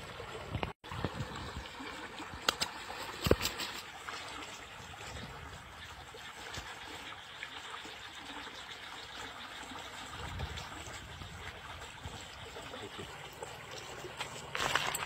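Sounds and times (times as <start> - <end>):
water running through channel: 0.0 - 15.0.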